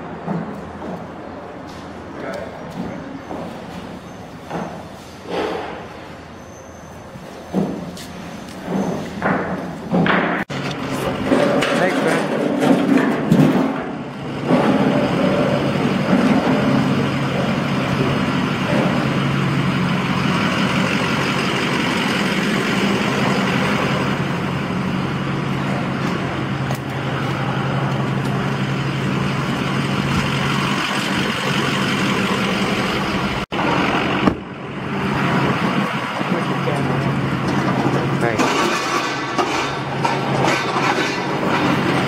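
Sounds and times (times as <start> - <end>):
road and tyre noise: 0.0 - 42.0
truck engine droning: 0.0 - 42.0.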